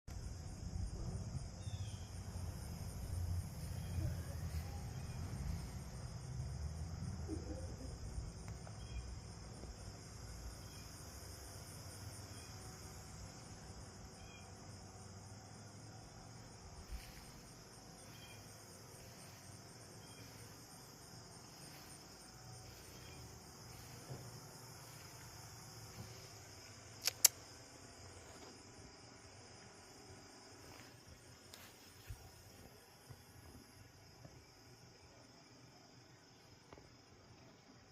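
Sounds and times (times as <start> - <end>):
insects chirring: 0.1 - 37.9.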